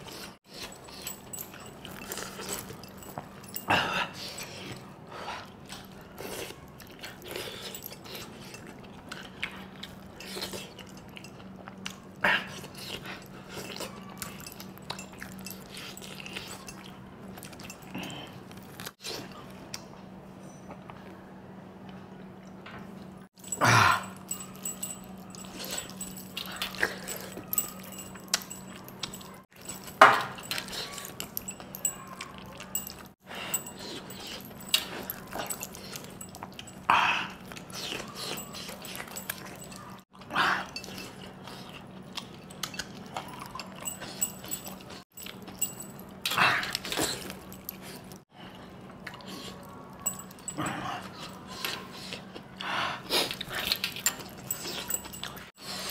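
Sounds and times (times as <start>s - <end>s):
wet chewing and lip-smacking: 0.0s - 3.5s, 4.2s - 19.9s, 24.1s - 55.9s.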